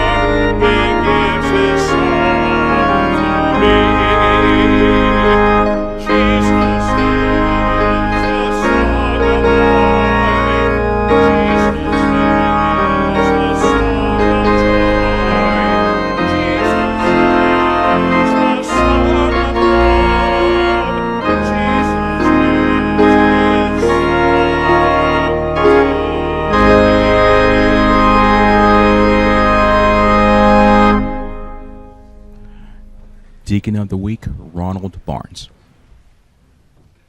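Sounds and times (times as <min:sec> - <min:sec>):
church organ playing chords: 0:00.0 - 0:35.5.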